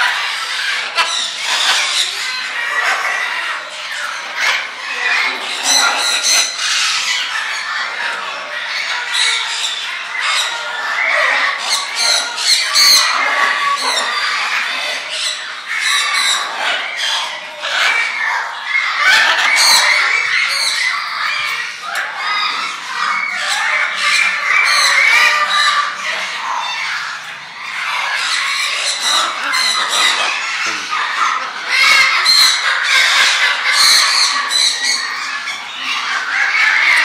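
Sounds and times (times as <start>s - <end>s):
caged birds squawking: 0.0s - 37.0s.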